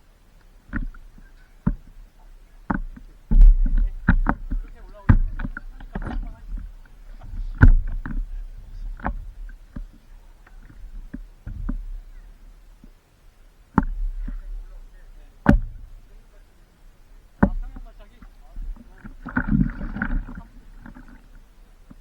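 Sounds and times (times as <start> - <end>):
water slapping and splashing: 0.7 - 12.3, 13.8 - 22.0.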